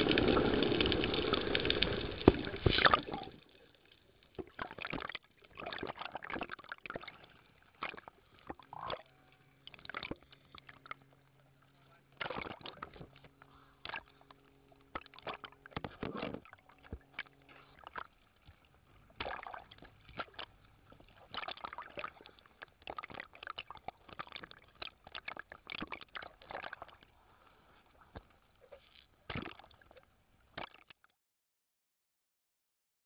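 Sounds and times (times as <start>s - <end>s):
low steady hum: 0.0s - 30.5s
water sloshing and bubbling: 0.0s - 31.1s.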